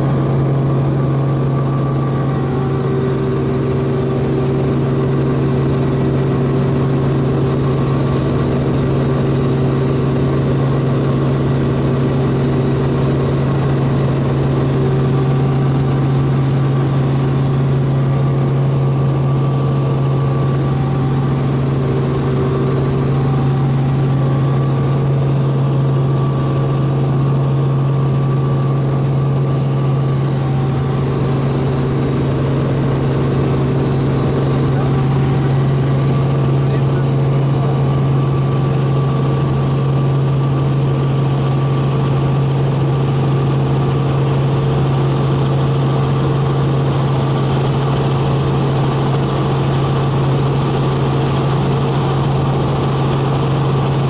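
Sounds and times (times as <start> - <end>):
helicopter engine and rotors drone: 0.0 - 54.0.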